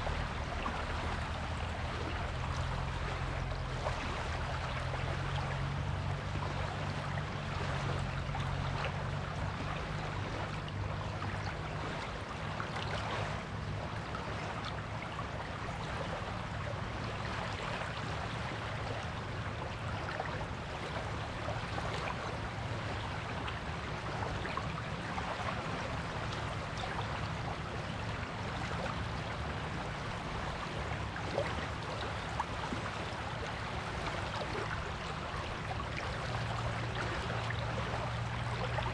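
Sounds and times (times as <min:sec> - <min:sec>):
small waves washing on beach: 0:00.0 - 0:38.9.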